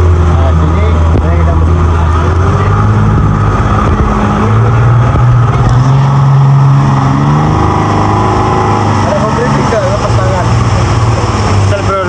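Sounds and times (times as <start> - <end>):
rush of wind and water: 0.0 - 12.0
speedboat engine running hard: 0.0 - 12.0.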